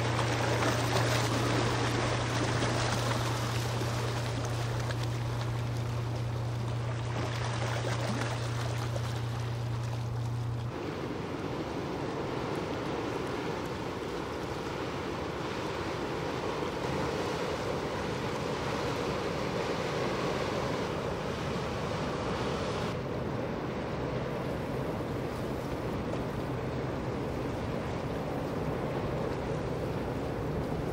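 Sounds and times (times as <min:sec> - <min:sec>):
bow wash rushing: 0:00.0 - 0:30.9
ship engine low hum: 0:00.0 - 0:30.9
water noise: 0:00.0 - 0:30.9
wind: 0:00.0 - 0:30.9.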